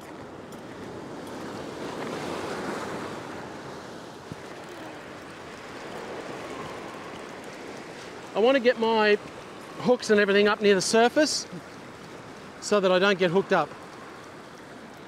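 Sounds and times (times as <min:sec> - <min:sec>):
surf washing over rocks: 0:00.0 - 0:15.0.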